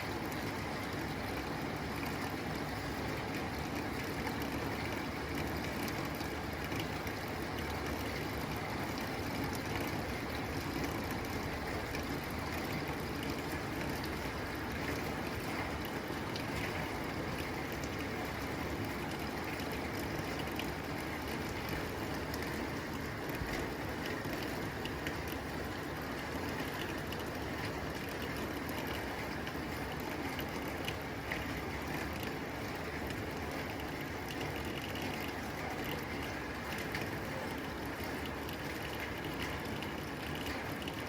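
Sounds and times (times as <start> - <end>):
rain on a tin roof: 0.0 - 41.0.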